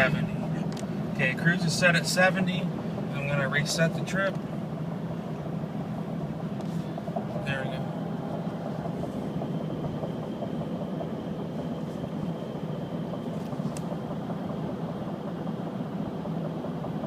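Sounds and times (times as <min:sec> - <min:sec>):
diesel engine drone: 0:00.0 - 0:17.0
road and tyre noise: 0:00.0 - 0:17.0.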